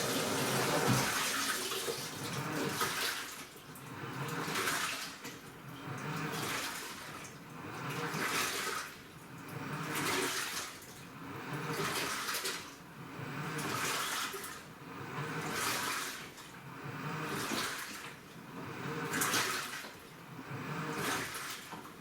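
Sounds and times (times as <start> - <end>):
washing machine churning water: 0.0 - 22.0.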